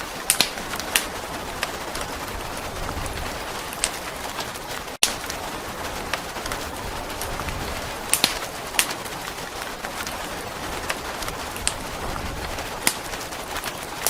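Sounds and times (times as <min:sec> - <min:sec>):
log fire crackling: 0:00.0 - 0:14.0
steady rain hiss: 0:00.0 - 0:14.0.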